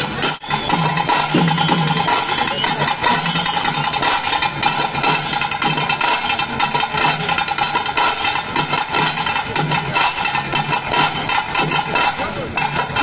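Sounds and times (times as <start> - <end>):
fast drumming with sticks: 0.0 - 13.0.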